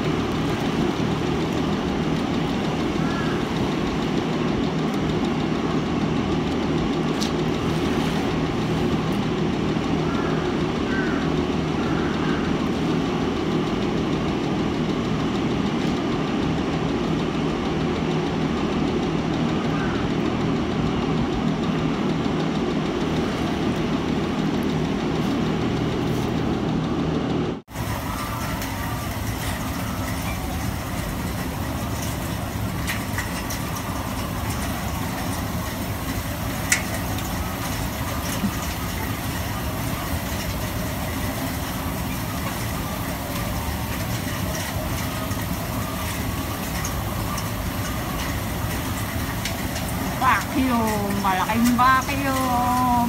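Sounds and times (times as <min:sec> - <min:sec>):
machinery drone: 0:00.0 - 0:53.0.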